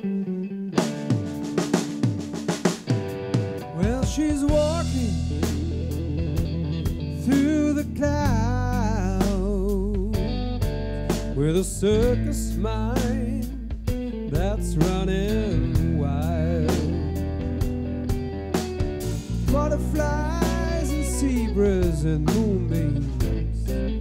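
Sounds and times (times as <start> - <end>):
guitars: 0.0 - 24.0
drums: 0.8 - 24.0.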